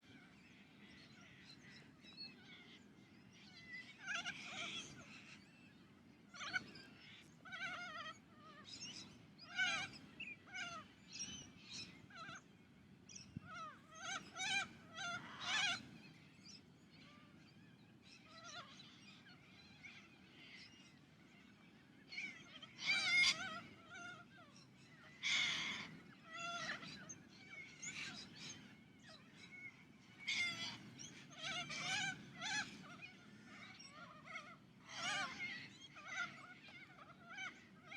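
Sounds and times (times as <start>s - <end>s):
birds squawking and chattering: 0.0s - 37.9s.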